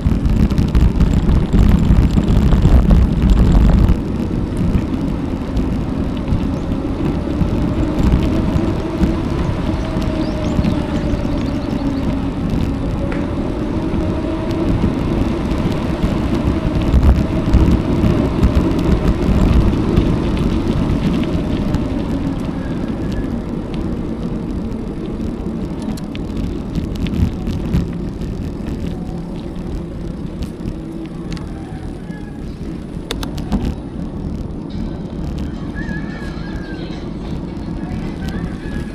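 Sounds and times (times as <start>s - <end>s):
bicycle tyre noise on road: 0.0s - 38.9s
vehicle engine running: 0.0s - 38.9s
wind rumble on microphone: 0.0s - 38.9s.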